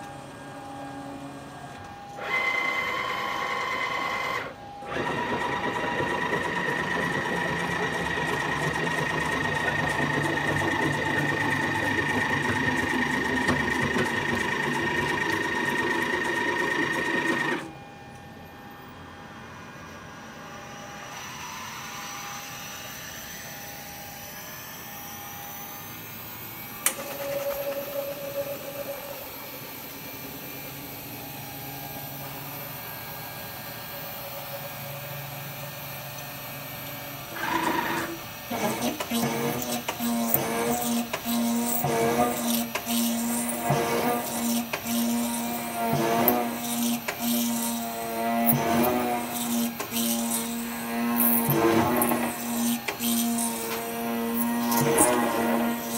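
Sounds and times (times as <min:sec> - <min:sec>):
machine hum: 0:00.0 - 0:21.9, 0:24.2 - 0:55.9
cnc spindle whine cutting metal: 0:00.0 - 0:55.9.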